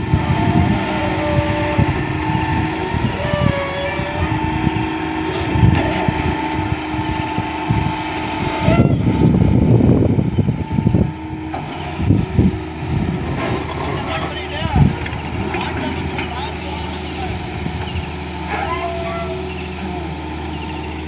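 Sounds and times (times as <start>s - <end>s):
excavator engine and hydraulics whining: 0.0s - 21.0s.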